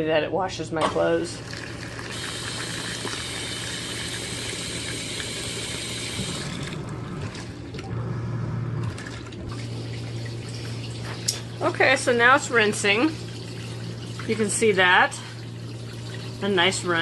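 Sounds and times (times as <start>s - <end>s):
washing machine motor hum: 0.0s - 17.0s
water sloshing in washing machine: 0.8s - 17.0s.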